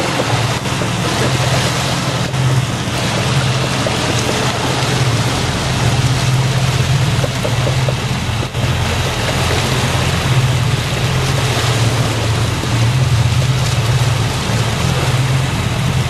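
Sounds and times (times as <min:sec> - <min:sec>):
boat motor droning: 0:00.0 - 0:16.0
water rushing past hull: 0:00.0 - 0:16.0.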